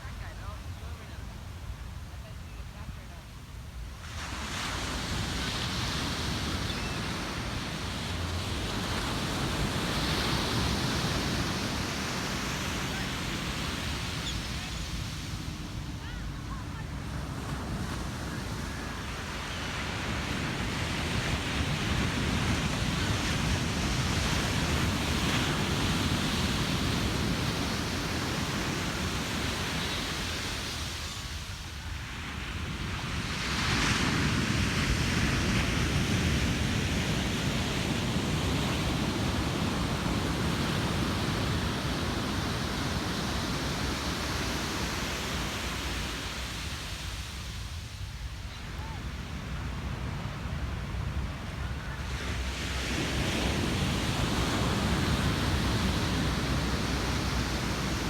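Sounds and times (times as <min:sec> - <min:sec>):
ocean waves crashing on beach: 0:00.0 - 0:58.0.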